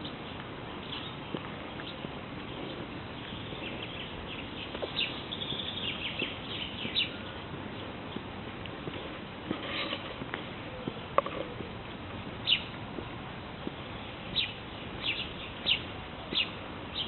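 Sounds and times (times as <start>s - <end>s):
birds singing and chirping: 0.0s - 12.8s, 13.6s - 17.0s
steady background hiss: 0.0s - 17.0s.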